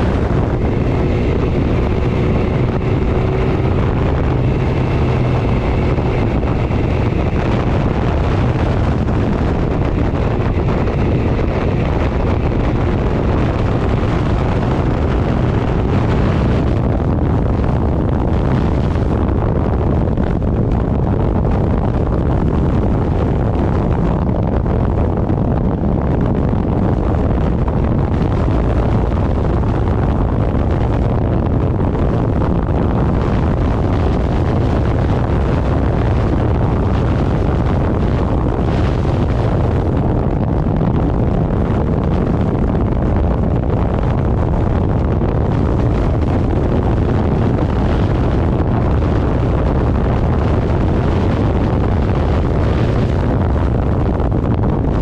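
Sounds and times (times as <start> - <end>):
vehicle engine running: 0.0 - 55.0
wind rushing over microphone: 0.0 - 55.0.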